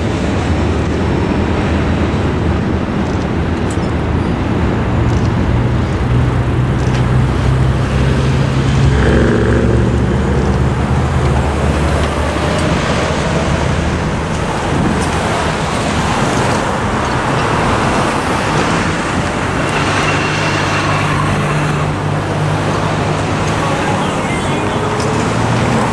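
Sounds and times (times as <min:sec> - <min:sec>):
cars driving over railroad crossing: 0:00.0 - 0:25.9
low engine hum: 0:00.0 - 0:25.9.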